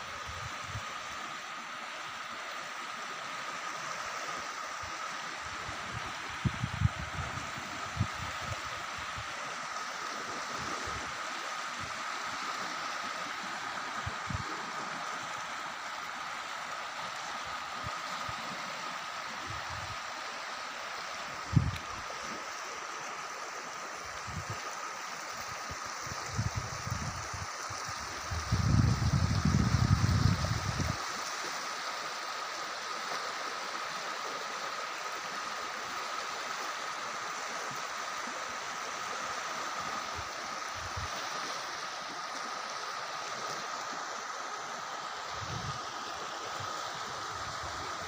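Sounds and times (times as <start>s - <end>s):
river rushing: 0.0s - 48.0s.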